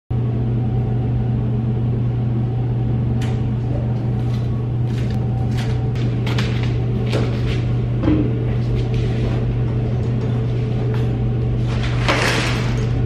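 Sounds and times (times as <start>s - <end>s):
loud low hum: 0.1s - 13.0s.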